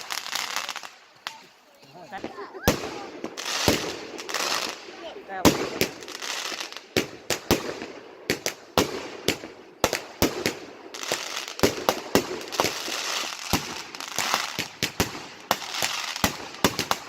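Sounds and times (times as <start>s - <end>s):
fireworks bangs and pops: 0.0s - 17.0s
fireworks crackling: 0.0s - 17.0s.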